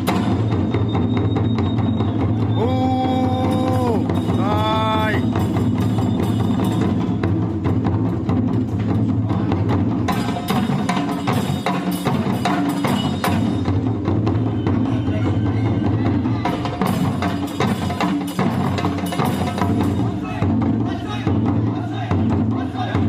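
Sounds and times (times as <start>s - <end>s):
drums: 0.0s - 23.0s.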